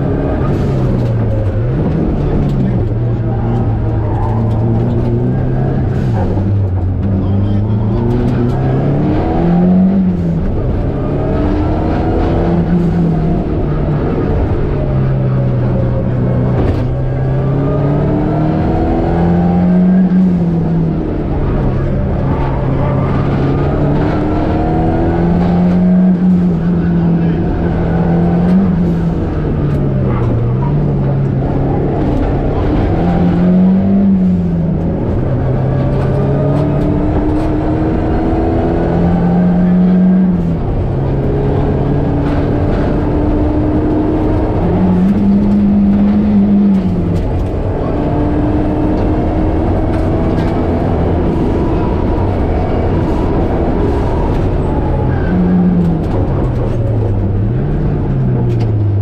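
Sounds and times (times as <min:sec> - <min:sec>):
rally car engine revving: 0:00.0 - 0:59.0
road and tyre noise: 0:00.0 - 0:59.0.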